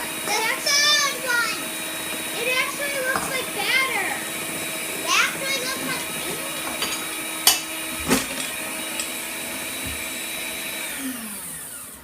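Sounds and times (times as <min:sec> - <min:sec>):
electric mixer beating batter: 0:00.0 - 0:12.0.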